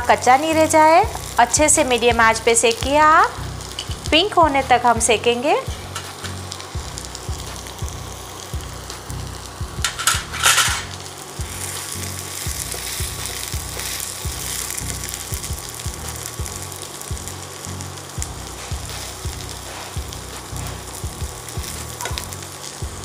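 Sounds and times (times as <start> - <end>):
butter sizzling in a frying pan: 0.0 - 23.0.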